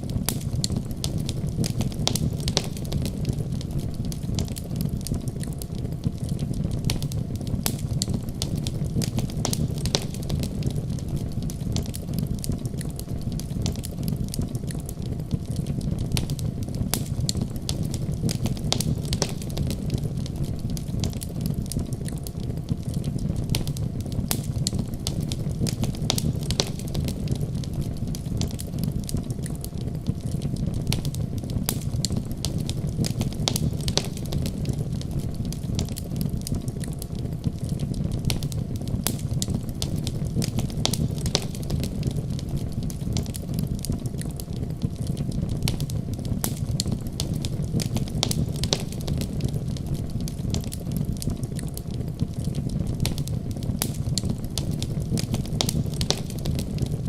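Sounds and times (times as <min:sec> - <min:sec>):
low fire rumble: 0:00.0 - 0:57.0
wood fire crackling: 0:00.0 - 0:57.0.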